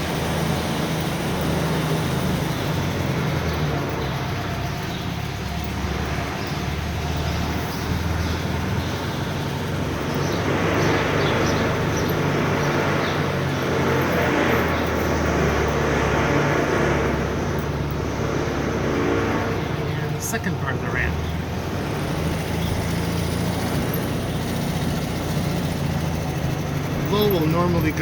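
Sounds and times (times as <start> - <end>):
car engine pulling in low gear: 0.0 - 28.0.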